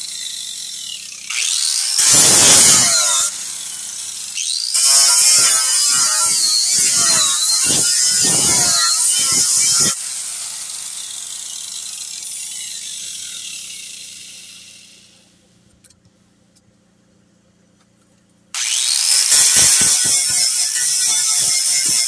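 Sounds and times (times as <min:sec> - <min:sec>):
angle grinder sanding: 0:00.0 - 0:15.1, 0:18.6 - 0:22.0.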